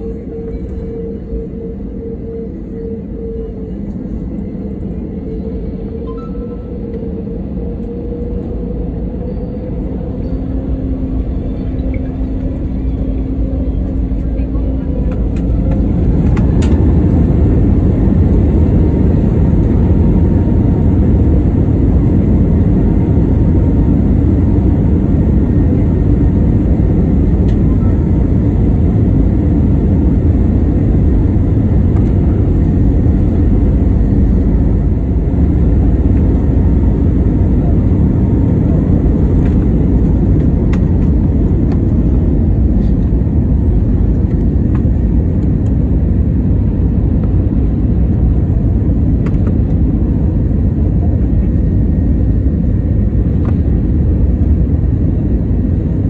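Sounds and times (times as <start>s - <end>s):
jet cabin rumble during takeoff: 0.0s - 56.0s.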